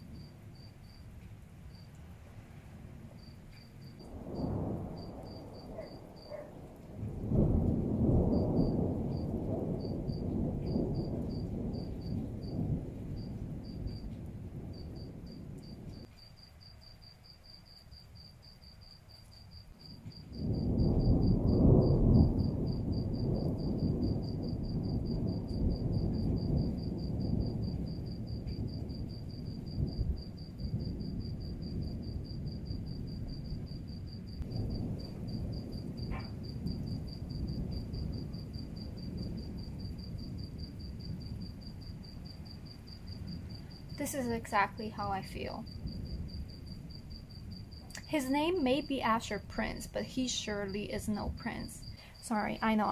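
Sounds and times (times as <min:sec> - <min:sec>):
thunder rumbling: 0:00.0 - 0:52.9.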